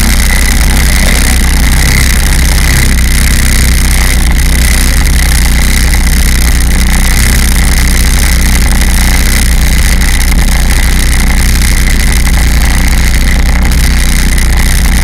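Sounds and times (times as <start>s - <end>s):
watercraft engine running: 0.0s - 15.0s.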